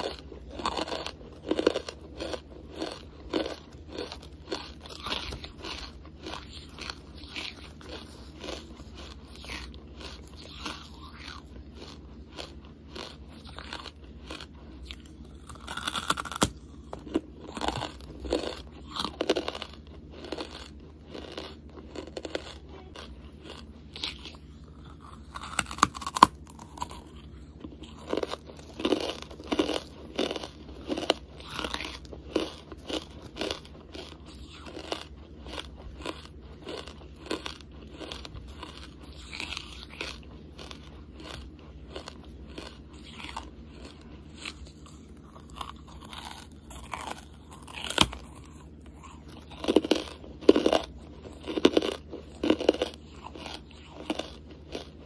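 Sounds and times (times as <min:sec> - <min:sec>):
chewing with sharp crunches: 0:00.0 - 0:55.0.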